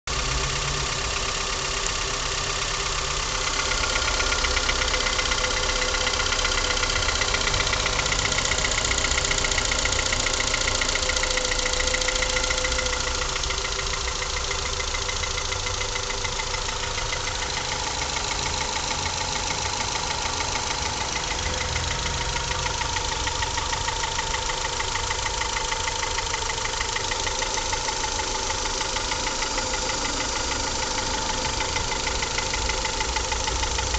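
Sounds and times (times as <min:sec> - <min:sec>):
car engine running: 0:00.1 - 0:33.9
rhythmic engine knock: 0:00.1 - 0:33.9.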